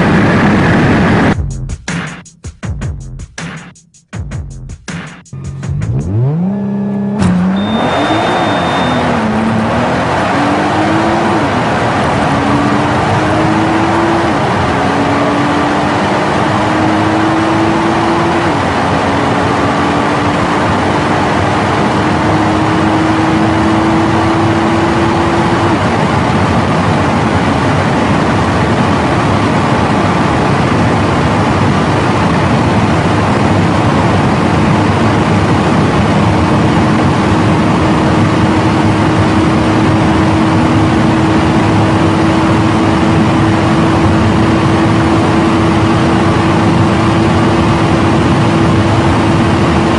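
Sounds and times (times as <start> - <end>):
car engine accelerating: 0.0 - 1.4, 5.3 - 49.9
steady rushing noise: 0.0 - 1.4, 7.6 - 49.9.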